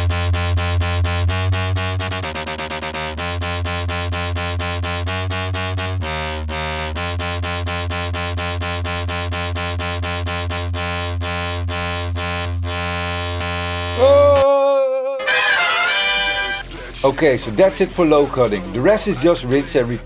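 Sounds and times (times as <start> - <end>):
electronic dance music: 0.0 - 12.4, 13.7 - 14.4, 15.2 - 20.0.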